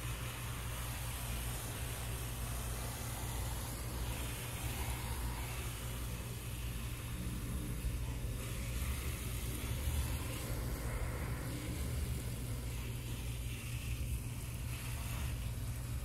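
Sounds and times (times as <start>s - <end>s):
pressure washer motor hum: 0.0s - 16.0s
water jet hissing on metal fins: 0.0s - 16.0s.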